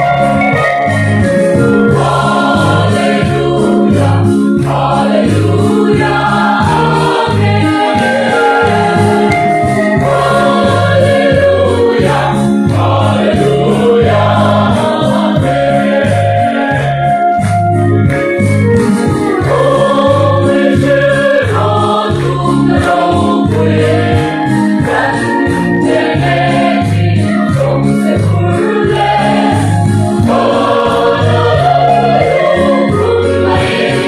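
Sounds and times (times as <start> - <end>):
mixed choir singing gospel: 0.0 - 18.0, 18.7 - 34.0
electronic keyboard with pulsing bass: 0.0 - 34.0.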